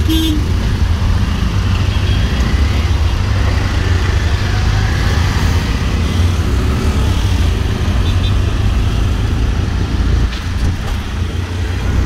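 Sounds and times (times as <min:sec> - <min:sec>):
surrounding traffic noise: 0:00.0 - 0:12.0.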